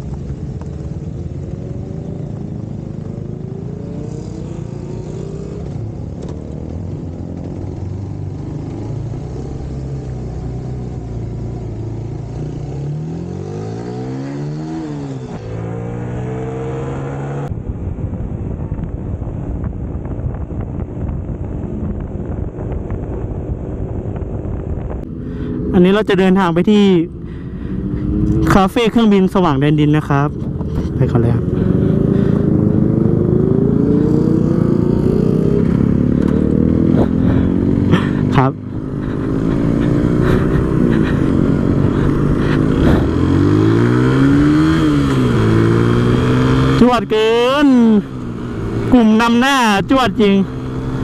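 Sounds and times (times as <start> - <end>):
motorcycle engine revving: 0.0 - 17.5, 19.6 - 51.0
wind rushing over microphone: 0.0 - 51.0.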